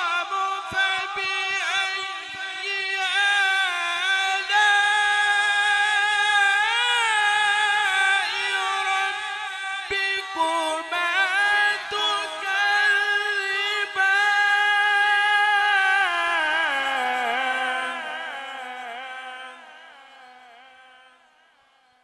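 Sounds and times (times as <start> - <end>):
man reciting melodically: 0.0 - 21.8.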